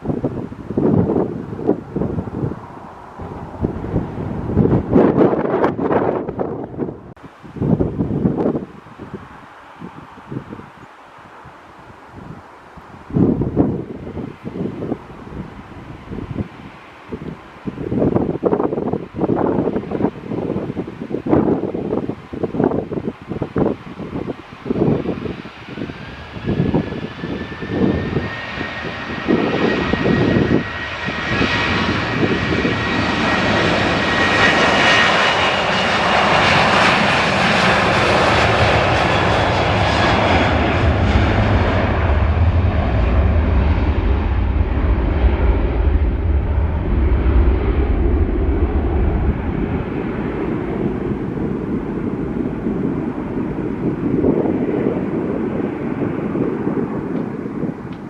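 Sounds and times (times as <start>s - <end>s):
jet airliner engine roar: 0.0s - 58.0s
wind buffeting microphone: 0.0s - 58.0s.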